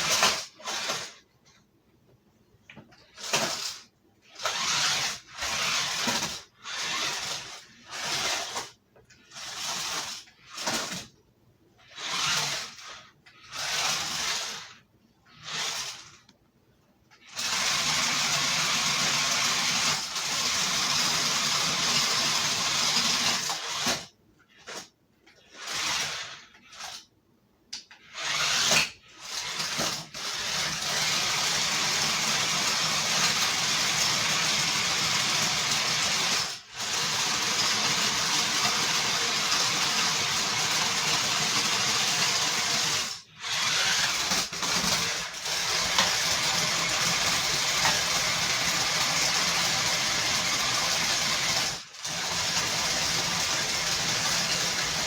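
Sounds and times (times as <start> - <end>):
toy car electric motors whirring: 0.0 - 1.2, 3.0 - 11.2, 11.8 - 16.3, 17.2 - 27.1, 27.8 - 55.0.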